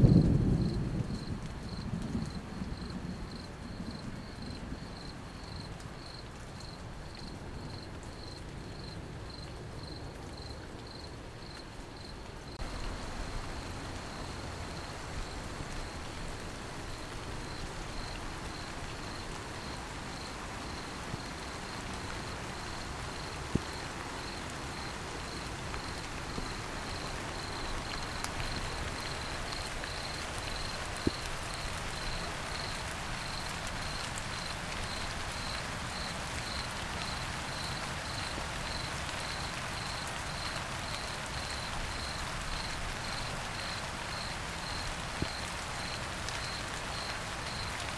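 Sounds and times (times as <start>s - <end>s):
cricket chirping: 0.0s - 47.8s
light rain falling: 0.0s - 47.9s
raindrop ticks: 0.0s - 47.9s.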